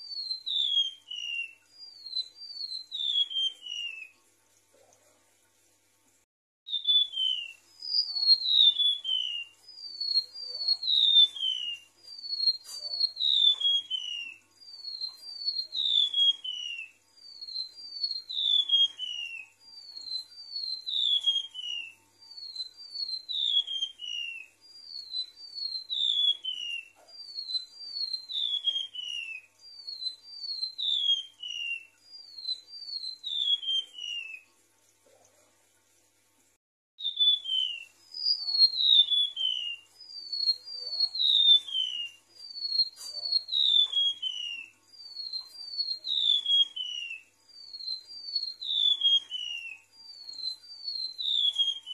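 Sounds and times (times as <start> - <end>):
bird song high thin whistles: 0.0 - 4.2, 6.7 - 34.5, 37.0 - 51.9.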